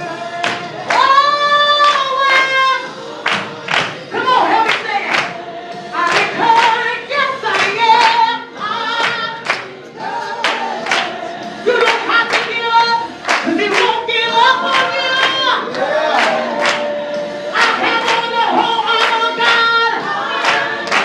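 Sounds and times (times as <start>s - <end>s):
gospel singing: 0.0s - 21.0s
hand claps on the beat: 0.4s - 5.4s, 6.0s - 8.3s, 9.0s - 21.0s.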